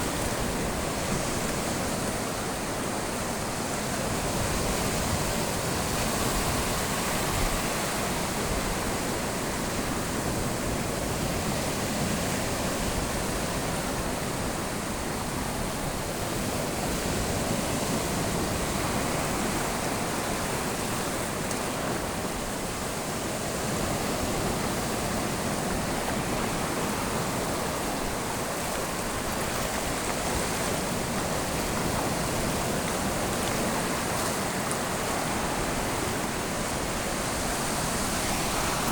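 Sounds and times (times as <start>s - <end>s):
sea surf rushing: 0.0s - 38.9s.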